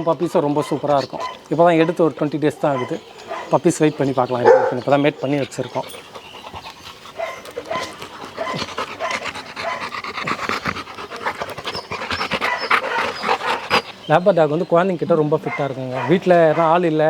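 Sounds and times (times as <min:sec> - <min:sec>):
dog panting: 0:00.2 - 0:16.8.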